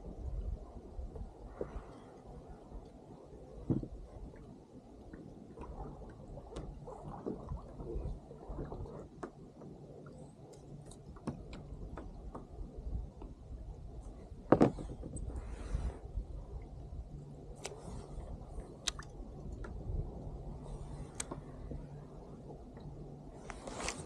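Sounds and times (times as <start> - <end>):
water lapping against kayak hull: 0.0 - 24.0.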